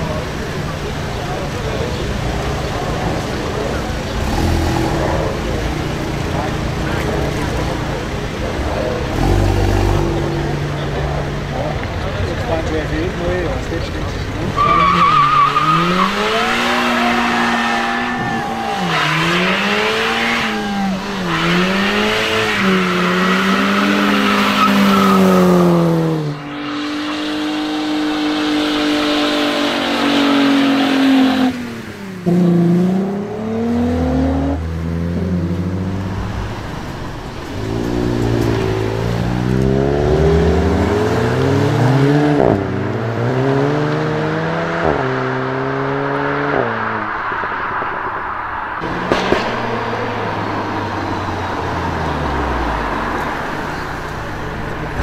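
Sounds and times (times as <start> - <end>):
car engine revving and accelerating: 0.0 - 48.2, 48.8 - 55.0.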